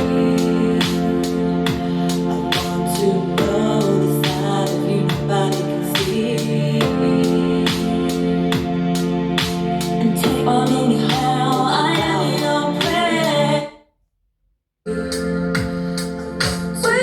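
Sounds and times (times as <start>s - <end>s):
dance track with singing: 0.0s - 13.7s, 14.9s - 17.0s.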